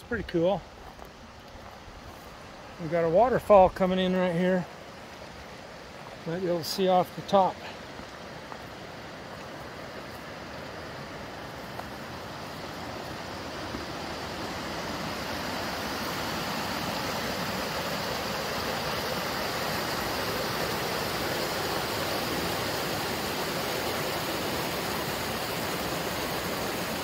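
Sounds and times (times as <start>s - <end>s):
waterfall over boulders: 0.0s - 27.0s.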